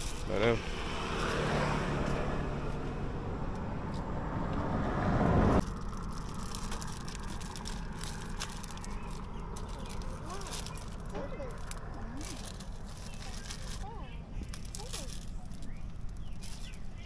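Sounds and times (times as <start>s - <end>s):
vehicle passing close: 0.0s - 17.0s.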